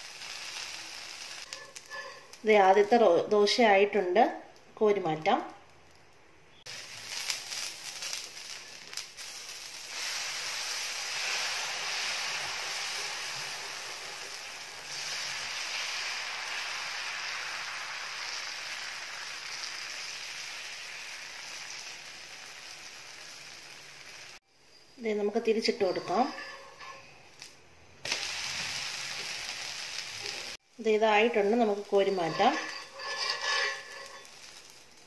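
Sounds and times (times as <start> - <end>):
batter sizzling on a hot griddle: 0.0 - 2.8, 6.6 - 24.4, 25.9 - 35.0.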